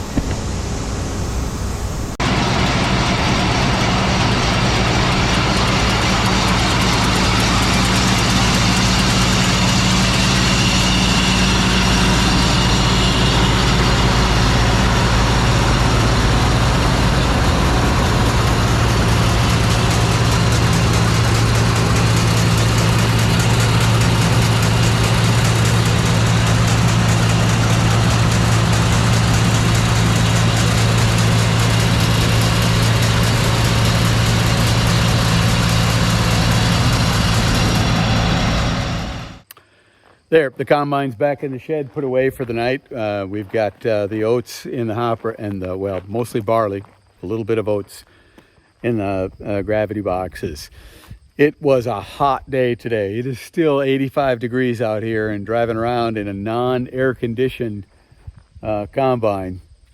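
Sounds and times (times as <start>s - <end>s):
diesel engine running: 0.0s - 52.4s.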